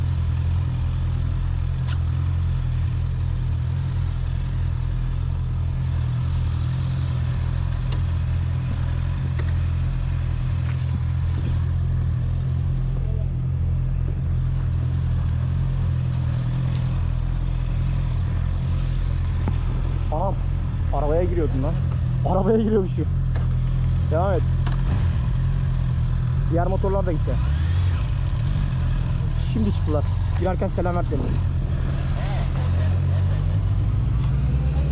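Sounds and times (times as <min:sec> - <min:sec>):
motorcycle engine idling: 0:00.0 - 0:33.4.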